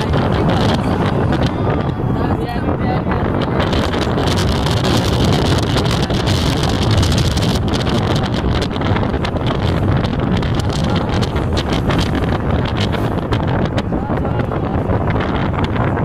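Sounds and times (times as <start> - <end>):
car road and engine noise: 0.0 - 16.0
wind buffeting microphone: 0.0 - 16.0.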